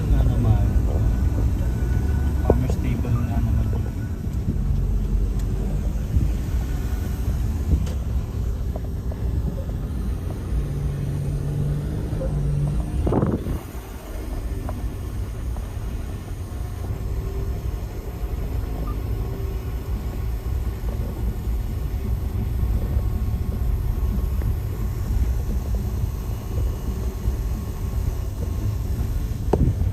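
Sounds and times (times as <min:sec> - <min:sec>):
vehicle engine and road rumble: 0:00.0 - 0:29.9.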